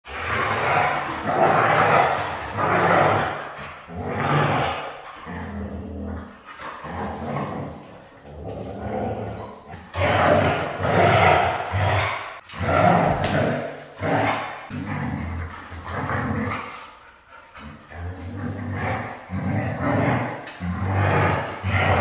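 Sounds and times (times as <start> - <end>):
dog growling: 0.0 - 22.0.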